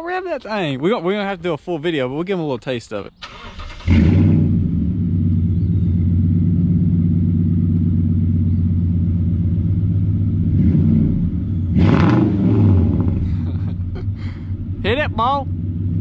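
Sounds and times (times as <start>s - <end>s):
truck engine starting and idling: 3.1s - 16.0s.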